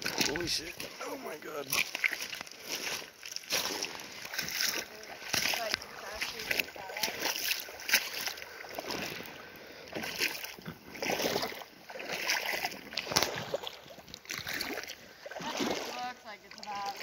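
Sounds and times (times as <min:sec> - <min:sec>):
feet wading through water: 0:00.0 - 0:17.0.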